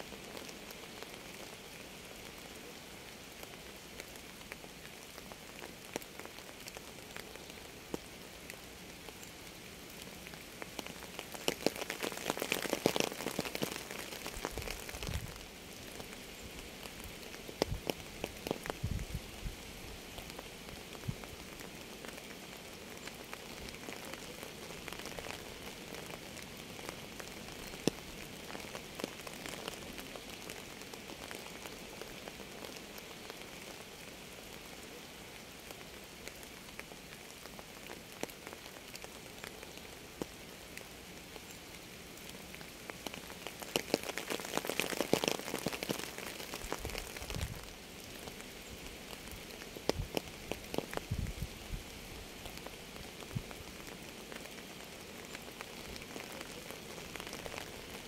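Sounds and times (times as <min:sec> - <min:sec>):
raindrops ticking close by: 0:00.0 - 0:58.0
steady rain: 0:00.0 - 0:58.0.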